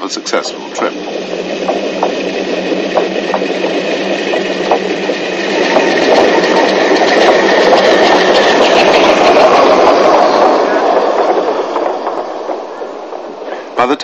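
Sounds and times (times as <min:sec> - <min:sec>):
steam locomotive running: 0:00.0 - 0:14.0.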